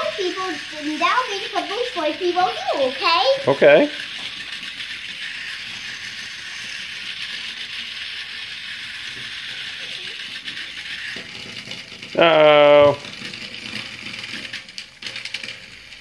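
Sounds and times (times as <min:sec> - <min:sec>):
toy train motor whirring: 0:00.0 - 0:16.0
wheels rattling on rails: 0:00.0 - 0:16.0.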